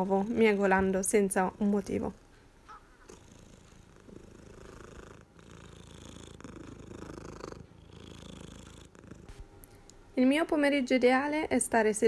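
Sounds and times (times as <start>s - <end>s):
cat purring: 0.0s - 9.7s.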